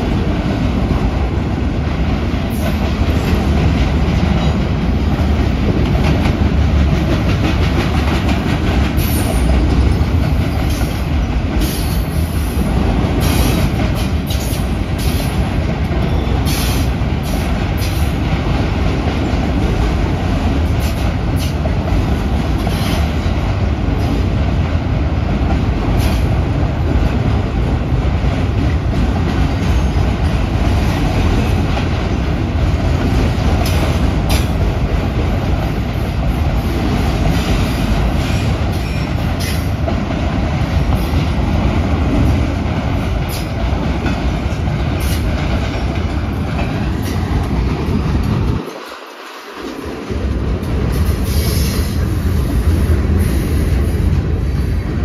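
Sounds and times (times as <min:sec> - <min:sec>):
freight train wheels rumbling: 0:00.0 - 0:55.0
clanks and rattles from cars: 0:02.3 - 0:52.0.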